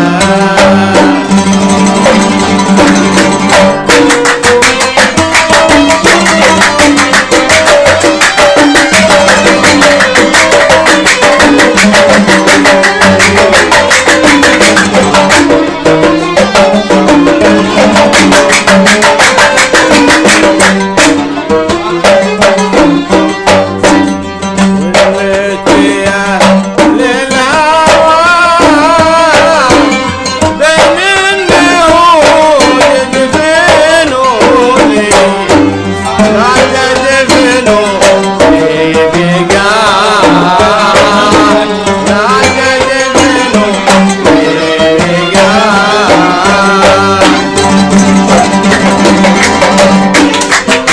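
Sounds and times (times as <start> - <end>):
violin melody: 0.0 - 26.4, 27.0 - 50.9
hand drum beats: 0.0 - 50.9
qanun melody: 0.0 - 50.9.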